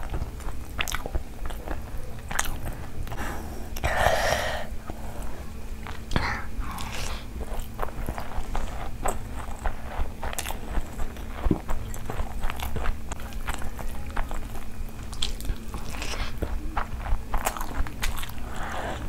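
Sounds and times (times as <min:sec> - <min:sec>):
chewing and mouth clicks: 0:00.0 - 0:04.0, 0:04.9 - 0:19.0.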